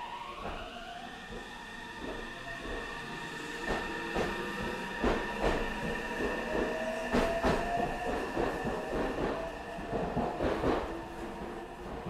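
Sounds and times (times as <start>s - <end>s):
electric train whine: 0.0s - 12.0s.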